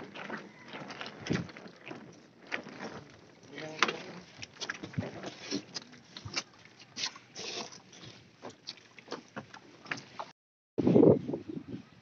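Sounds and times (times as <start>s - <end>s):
footsteps on rocky bank: 0.0s - 10.3s.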